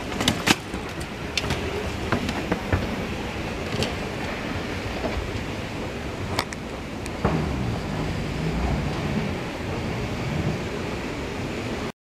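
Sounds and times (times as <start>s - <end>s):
moving walkway rumble: 0.0s - 11.9s.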